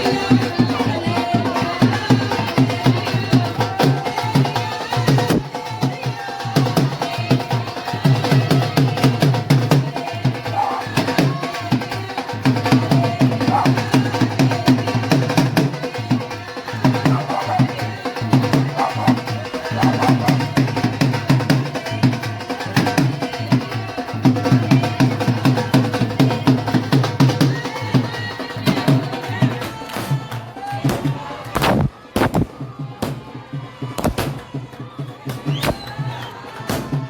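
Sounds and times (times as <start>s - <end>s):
music with fast drumming: 0.0s - 37.0s.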